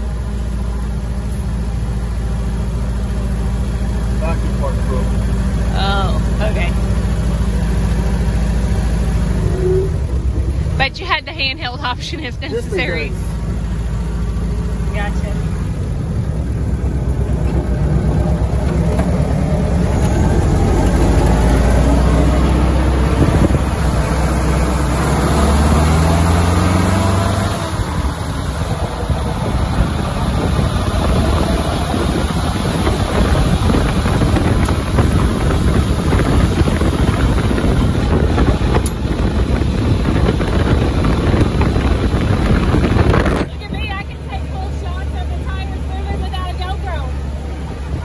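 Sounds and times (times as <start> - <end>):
jeep engine accelerating: 0.0 - 48.0.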